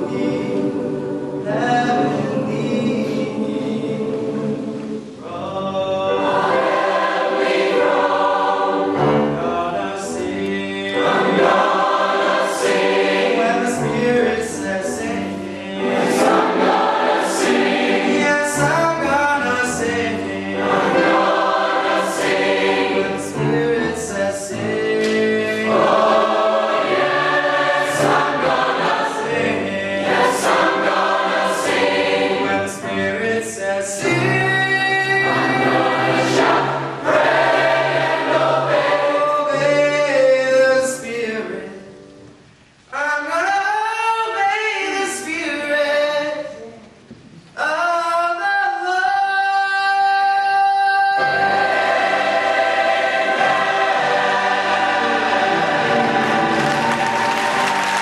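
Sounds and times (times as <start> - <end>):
choir singing gospel: 0.0 - 42.2, 47.6 - 58.0.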